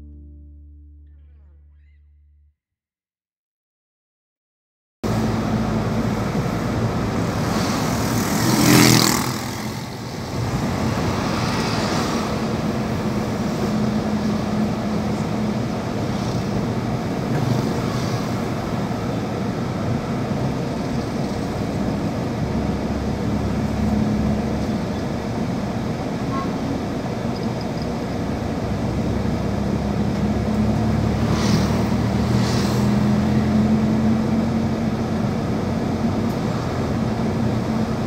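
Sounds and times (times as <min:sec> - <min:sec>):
car driving on road: 0:05.0 - 0:38.0.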